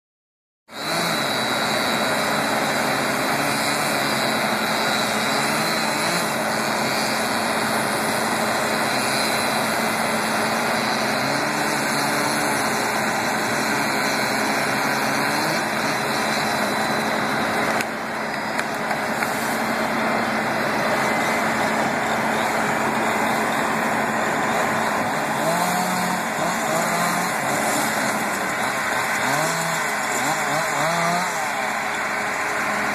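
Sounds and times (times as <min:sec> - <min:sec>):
engine running: 0:00.7 - 0:32.9.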